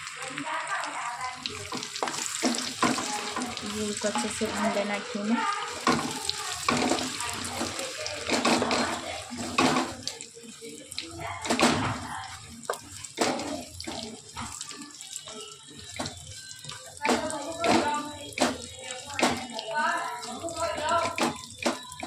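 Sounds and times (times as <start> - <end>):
frying in bubbling oil: 0.0 - 22.0.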